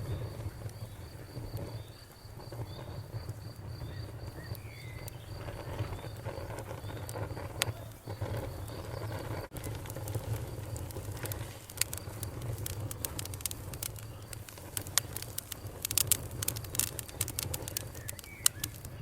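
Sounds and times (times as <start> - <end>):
bonfire crackling: 0.0 - 19.0
cricket chirping: 0.0 - 19.0.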